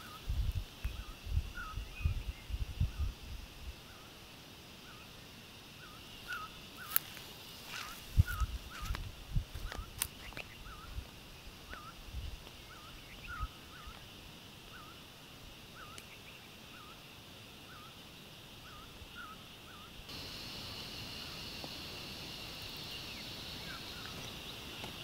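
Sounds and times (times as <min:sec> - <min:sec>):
high insect buzz: 0:00.0 - 0:25.0.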